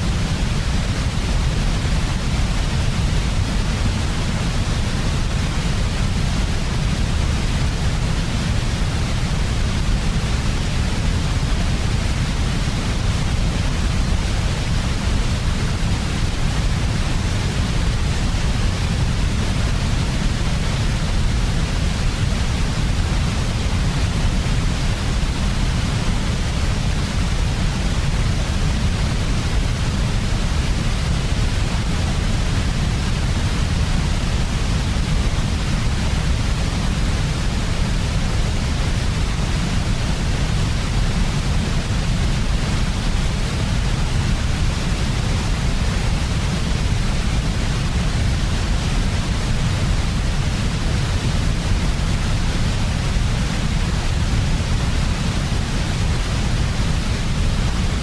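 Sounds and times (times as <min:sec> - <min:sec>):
white noise: 0:00.0 - 0:58.0.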